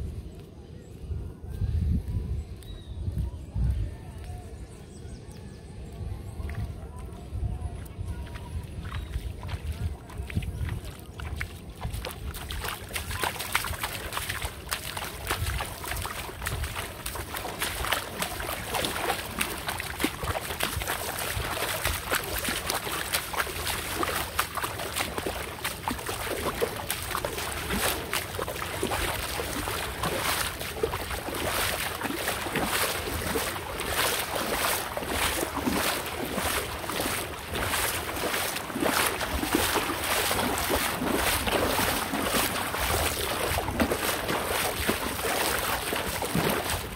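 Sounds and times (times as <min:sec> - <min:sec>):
wind rumbling on microphone: 0:00.0 - 0:46.9
water splashing from wading: 0:08.3 - 0:46.9.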